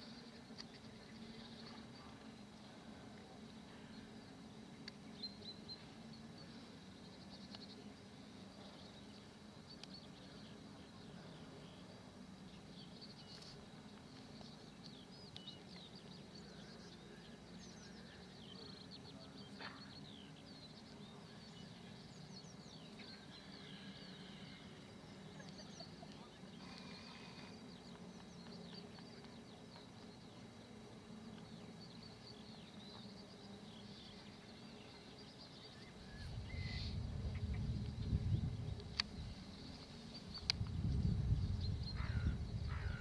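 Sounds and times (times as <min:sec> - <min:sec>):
low steady hum: 0:00.0 - 0:43.0
small birds chirping: 0:00.0 - 0:43.0.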